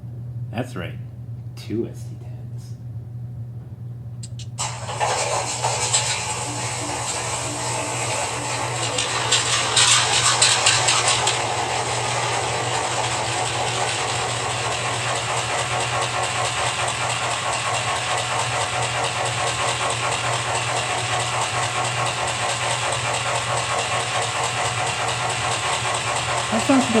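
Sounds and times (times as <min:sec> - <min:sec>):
model locomotive diesel engine sound: 0:04.2 - 0:27.0.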